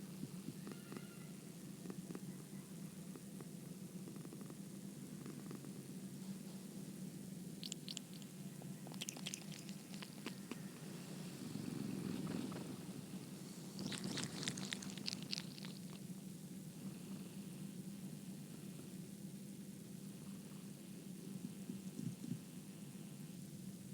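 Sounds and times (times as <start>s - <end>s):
cat purring: 1.6s - 22.4s.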